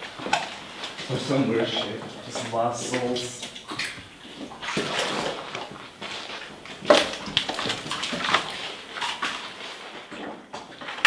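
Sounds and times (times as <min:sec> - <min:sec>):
footsteps splashing in shallow water: 0:00.0 - 0:11.0.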